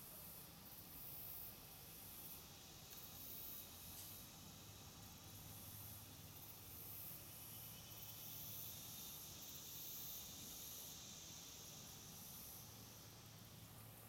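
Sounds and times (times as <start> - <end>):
insect chorus buzzing: 0.3 - 14.0
shrill pulsing insect calls: 2.2 - 13.7.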